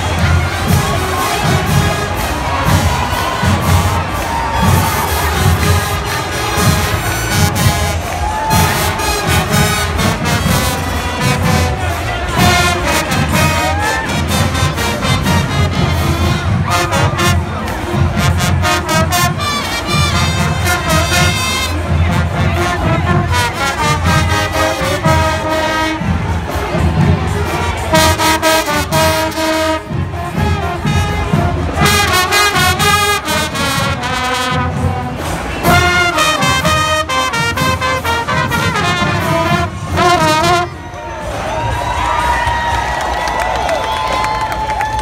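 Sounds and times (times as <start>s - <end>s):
marching band brass playing: 0.0s - 45.0s.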